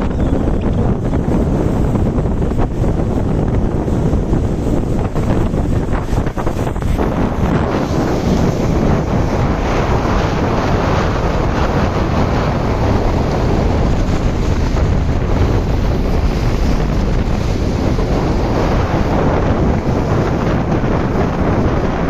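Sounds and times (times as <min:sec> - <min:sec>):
wind buffeting microphone: 0:00.0 - 0:22.0
waves breaking in surf: 0:01.0 - 0:22.0.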